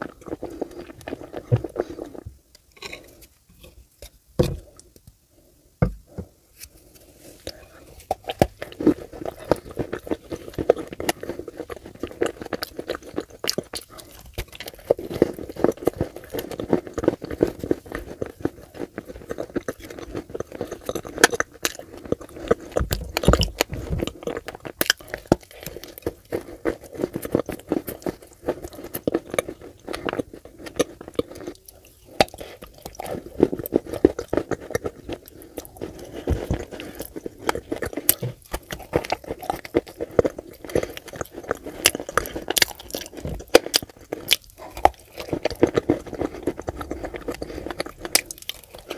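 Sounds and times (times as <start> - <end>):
crunchy biting and chewing: 7.5 - 48.9.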